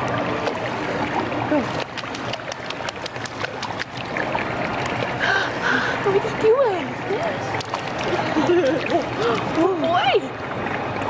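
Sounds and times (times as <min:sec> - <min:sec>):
baby splashing pool water: 0:00.0 - 0:06.7, 0:07.4 - 0:10.0.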